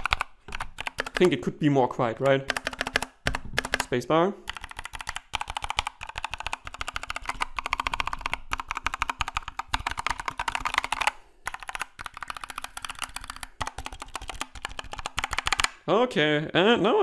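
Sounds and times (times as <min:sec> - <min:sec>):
mechanical keyboard typing: 0:00.0 - 0:01.5, 0:02.2 - 0:15.8.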